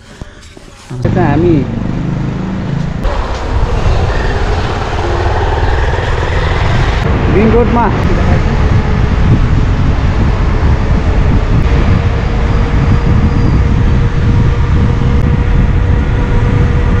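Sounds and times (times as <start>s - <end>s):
wind rumble on microphone: 2.1s - 17.0s.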